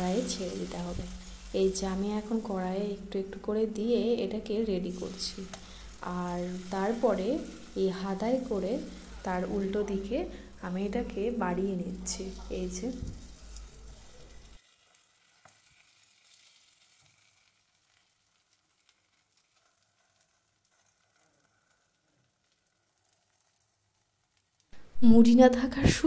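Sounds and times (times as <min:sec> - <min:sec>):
batter sizzling faintly in oil: 0:00.0 - 0:24.8.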